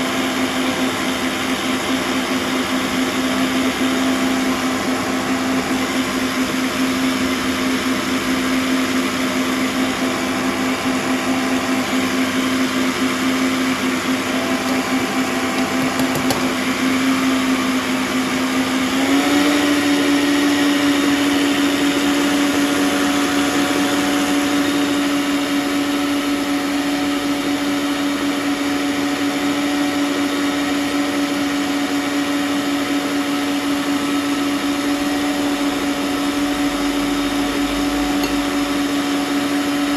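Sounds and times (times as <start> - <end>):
stand mixer whisking: 0.0 - 39.9.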